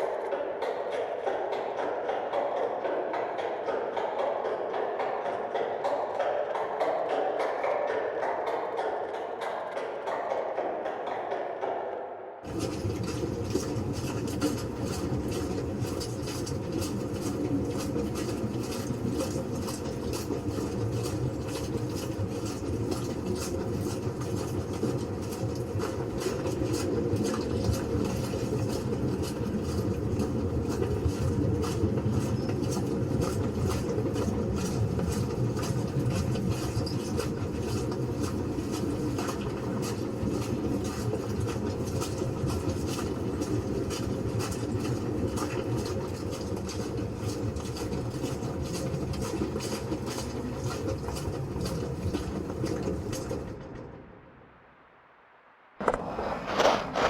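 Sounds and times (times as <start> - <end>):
footsteps of many people: 0.0 - 53.7.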